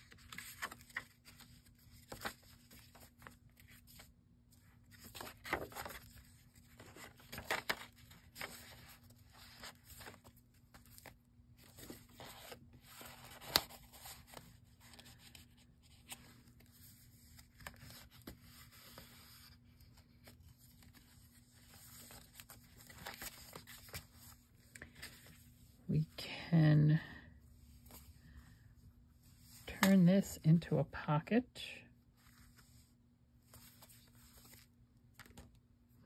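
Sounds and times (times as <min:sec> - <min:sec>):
paper pages rustling: 0:00.0 - 0:25.6, 0:32.2 - 0:35.6.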